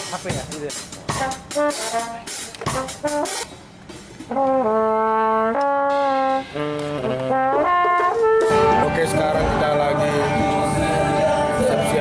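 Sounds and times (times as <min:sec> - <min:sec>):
brass instruments playing: 0:01.1 - 0:03.5, 0:04.2 - 0:12.0.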